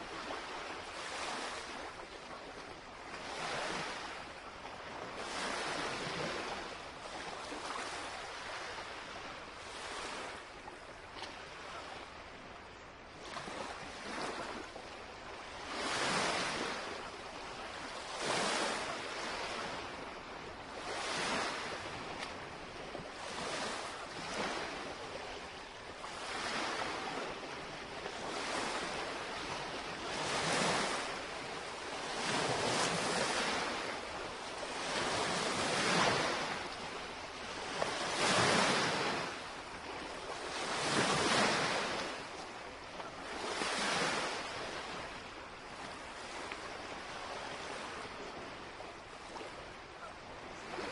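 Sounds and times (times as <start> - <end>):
waves lapping against shoreline: 0.0 - 50.9.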